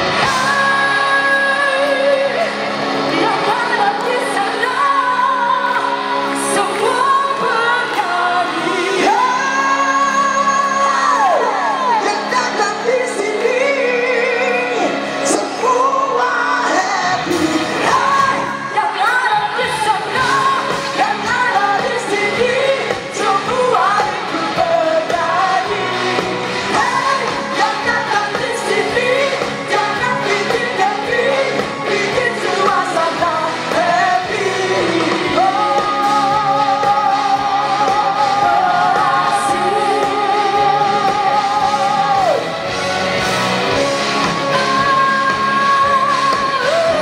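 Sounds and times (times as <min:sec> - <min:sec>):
woman singing: 0:00.0 - 0:42.6, 0:44.2 - 0:47.0
electric guitar and band: 0:00.0 - 0:47.0.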